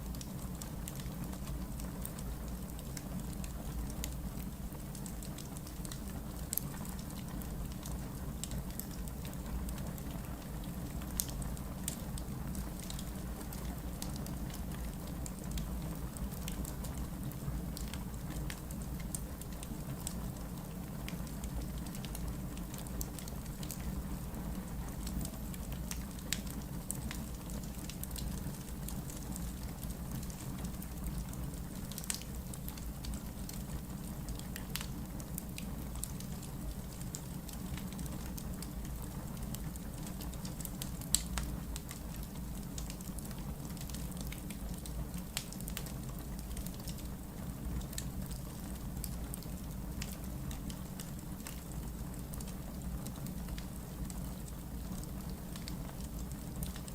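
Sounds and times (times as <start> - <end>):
wood fire crackling and popping: 0.1 - 56.9.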